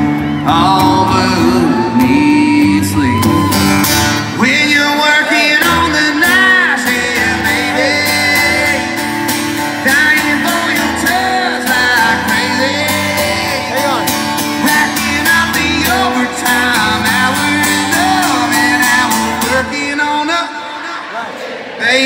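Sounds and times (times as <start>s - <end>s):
person singing: 0.0s - 20.5s
acoustic guitar strumming: 0.0s - 20.7s.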